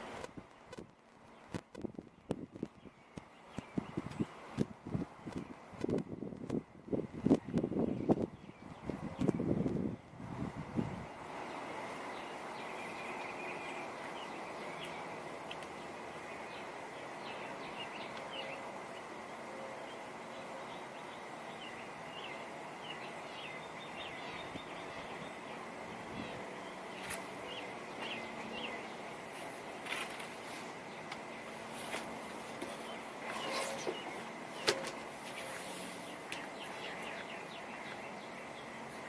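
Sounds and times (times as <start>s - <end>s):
birds chirping: 0.0s - 5.8s, 7.2s - 39.0s
wind: 0.0s - 39.0s.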